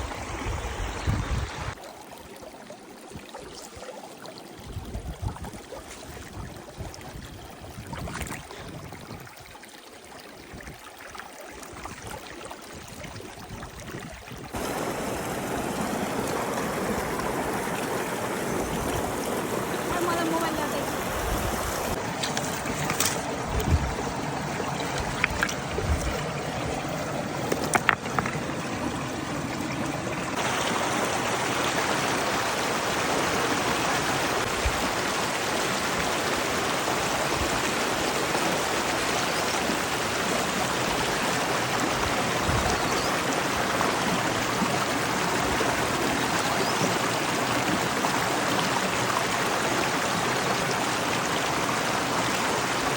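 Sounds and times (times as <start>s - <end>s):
stream water running: 0.0s - 52.9s.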